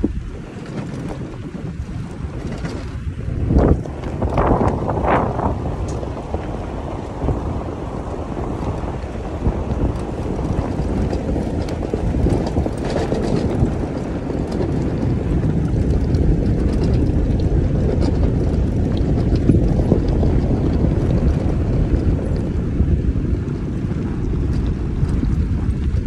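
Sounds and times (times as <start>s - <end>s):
engine and tyres on gravel: 0.0s - 26.0s
wind buffeting microphone: 0.0s - 26.0s
small knocks and rattles: 0.5s - 7.4s, 8.0s - 26.0s.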